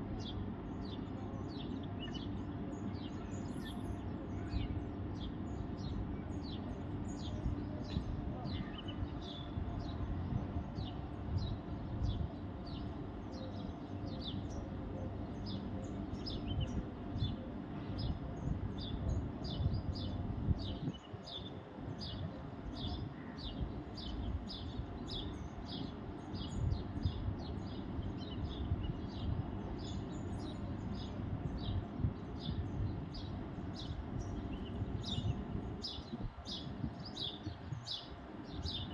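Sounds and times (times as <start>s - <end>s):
low rumbling background noise: 0.0s - 38.9s
birds chirping: 0.1s - 38.9s.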